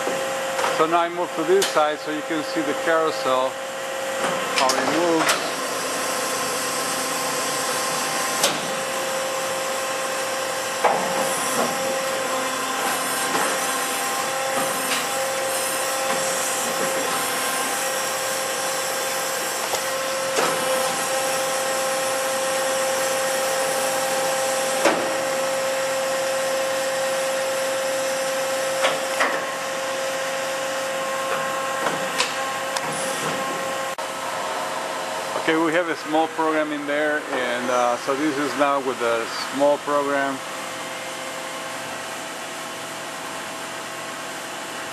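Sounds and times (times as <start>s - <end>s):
machine steady mechanical whine: 0.0s - 44.9s.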